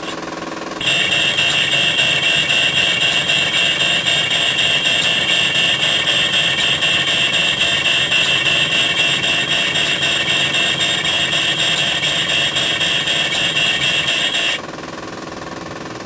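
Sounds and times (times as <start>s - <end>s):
harsh rattling warning buzz: 0.8s - 14.6s.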